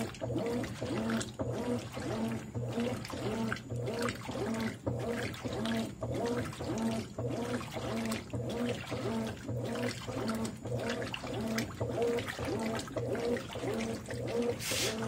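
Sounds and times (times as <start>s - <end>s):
washing machine motor humming: 0.0s - 15.0s
water sloshing: 0.0s - 15.0s.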